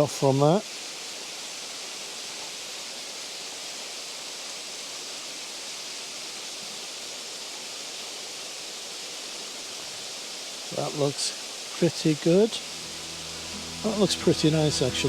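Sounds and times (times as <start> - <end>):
water running over rocks: 0.0 - 14.1.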